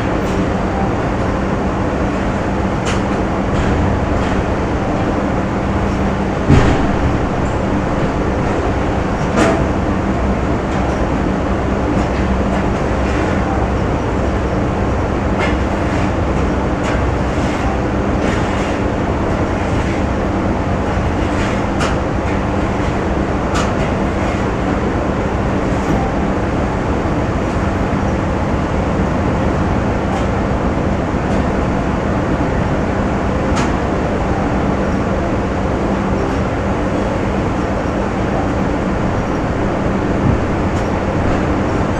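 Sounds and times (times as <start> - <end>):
constant low hum: 0.0 - 41.9
factory machinery rumbling: 0.0 - 41.9.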